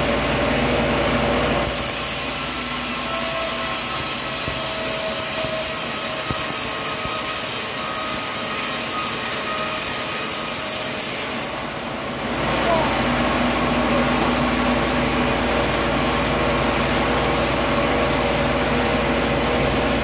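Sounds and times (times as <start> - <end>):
saw cutting through wood: 1.6 - 20.0.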